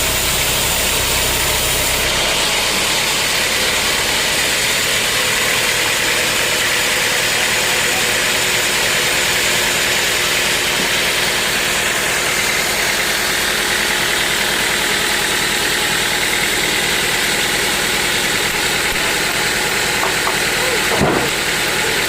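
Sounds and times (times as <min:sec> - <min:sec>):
sawmill machinery droning: 0:00.0 - 0:22.0.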